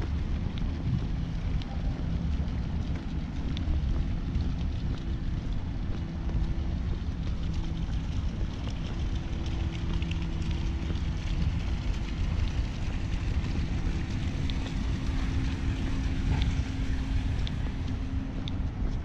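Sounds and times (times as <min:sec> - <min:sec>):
faint light ticks: 0:00.0 - 0:19.0
low machine hum: 0:00.0 - 0:19.0
wind rumbling on microphone: 0:00.0 - 0:19.0.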